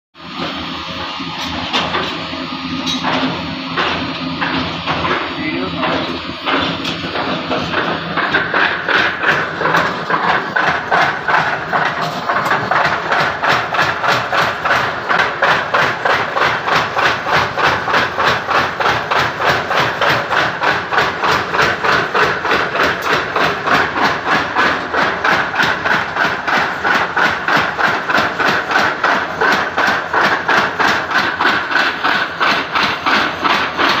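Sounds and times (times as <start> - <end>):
machine running: 0.2 - 34.0
power hammer striking: 0.4 - 34.0.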